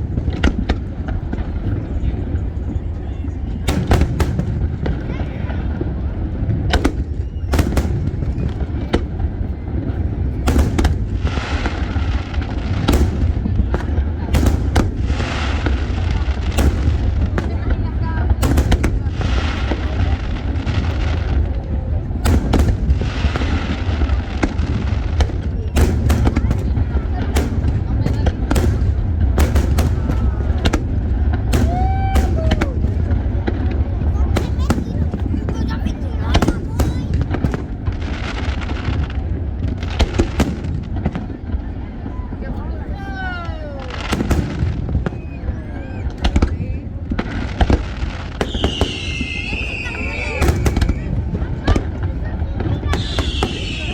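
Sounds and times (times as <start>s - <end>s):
crowd chatter: 0.0s - 53.9s
fireworks bangs: 0.0s - 53.9s
fireworks cracks: 0.0s - 53.9s.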